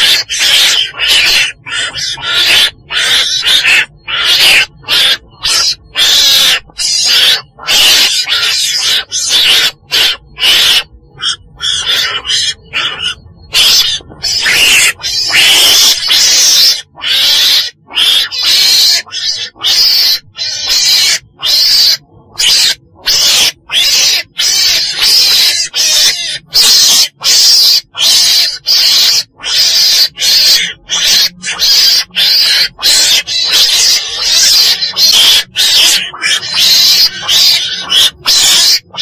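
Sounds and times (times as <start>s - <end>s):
weasel harsh hissy calls: 0.0s - 39.0s.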